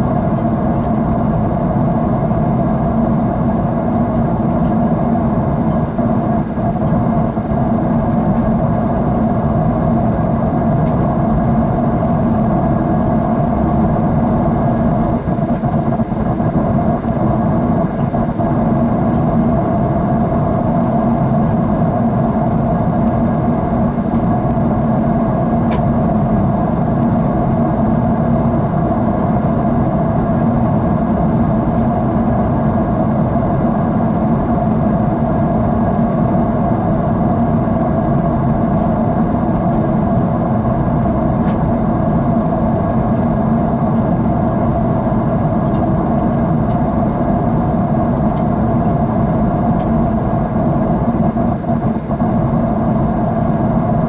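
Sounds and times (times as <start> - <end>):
jet engine cabin hum: 0.0 - 54.0.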